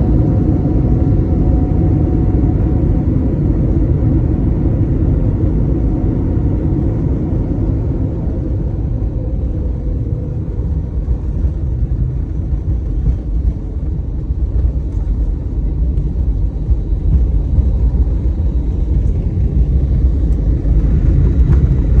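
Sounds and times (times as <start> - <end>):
airliner landing rumble: 0.0 - 22.0.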